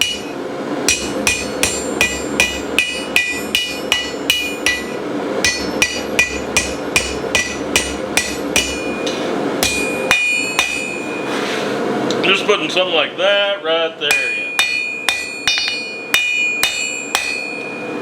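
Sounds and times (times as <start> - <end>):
hammer striking hot steel: 0.0 - 11.3, 14.1 - 18.0.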